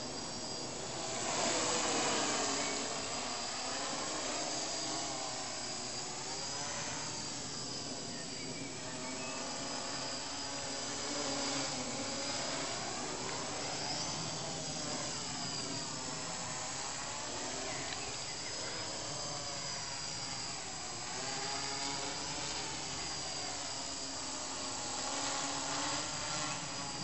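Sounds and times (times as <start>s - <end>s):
drone motors buzzing whine: 0.0s - 27.0s.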